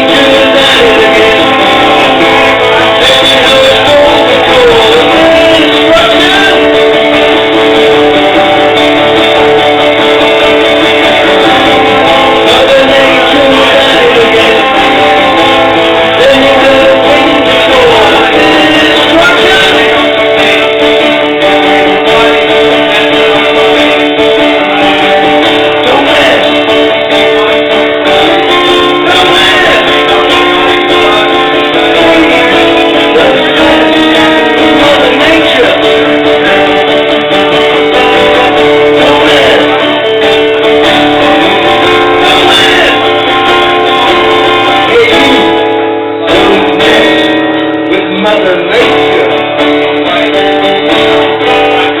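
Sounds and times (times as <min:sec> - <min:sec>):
strummed acoustic guitar: 0:00.0 - 0:52.0.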